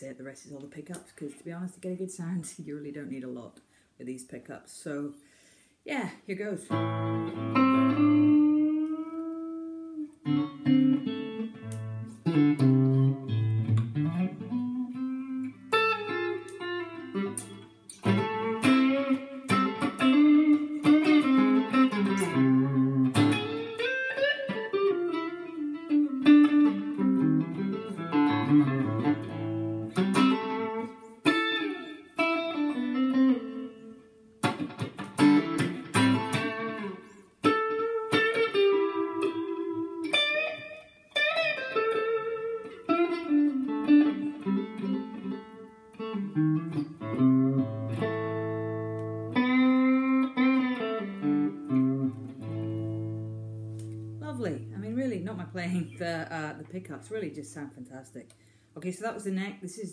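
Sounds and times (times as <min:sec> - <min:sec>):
clean electric guitar: 0:06.7 - 0:58.7.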